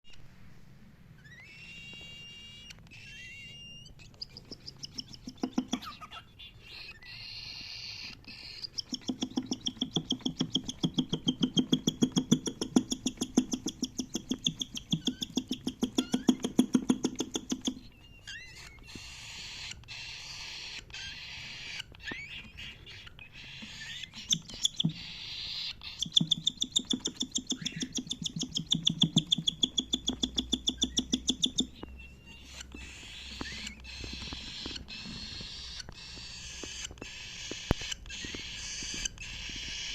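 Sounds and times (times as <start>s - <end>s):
cockatiel chirping: 1.2s - 39.9s.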